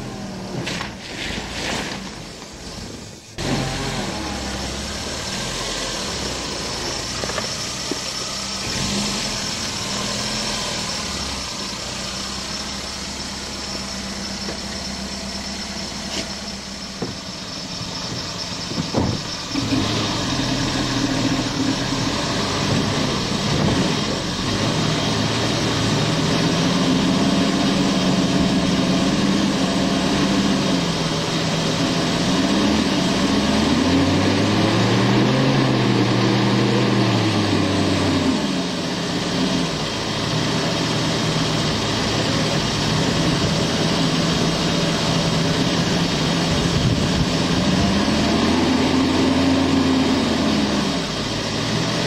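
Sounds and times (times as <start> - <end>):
car engine idling and revving: 0.0 - 52.0
engine clatter: 0.0 - 52.0.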